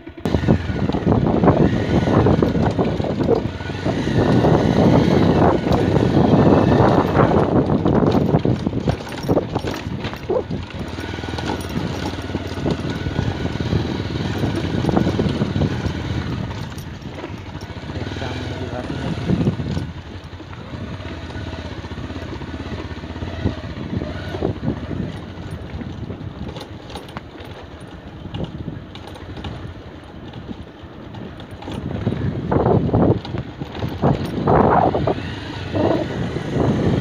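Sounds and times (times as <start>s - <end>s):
motorcycle engine at low speed: 0.0s - 37.0s
wind noise on microphone: 0.2s - 37.0s
small clicks and rattles: 0.8s - 23.0s, 24.2s - 36.1s.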